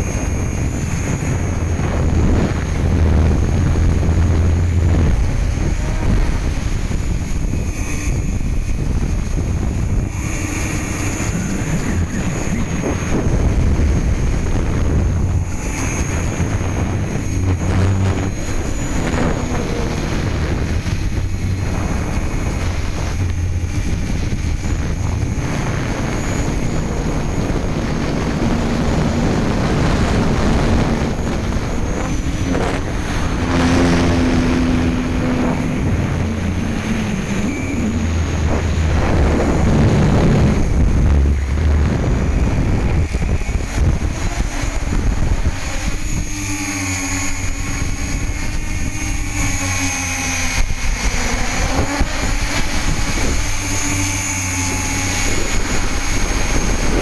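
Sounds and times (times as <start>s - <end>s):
drone motors buzzing: 0.0s - 57.0s
wind buffeting microphone: 0.0s - 57.0s.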